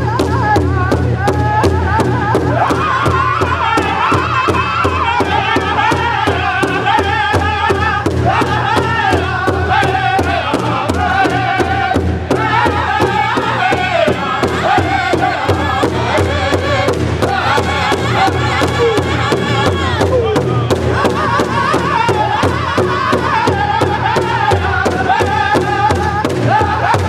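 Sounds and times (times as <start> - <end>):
bass drum beat: 0.0 - 27.0
men singing high chant: 0.0 - 27.0
women's voices singing: 2.1 - 27.0.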